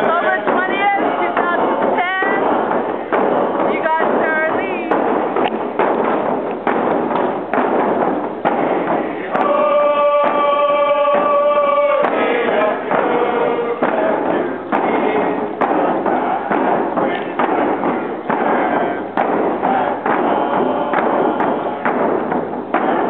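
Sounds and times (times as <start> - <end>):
group of voices singing: 0.0 - 4.9, 8.4 - 23.0
hand drums beating: 0.0 - 23.0.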